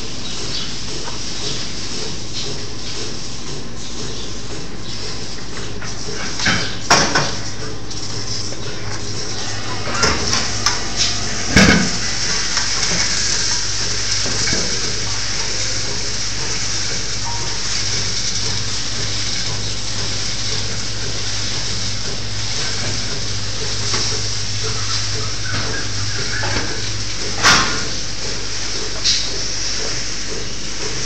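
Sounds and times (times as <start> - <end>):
milking machinery hiss and hum: 0.0 - 31.0.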